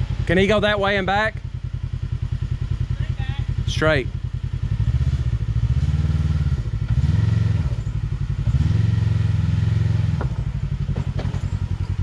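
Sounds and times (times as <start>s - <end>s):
utv engine throttle surges: 0.0s - 12.0s.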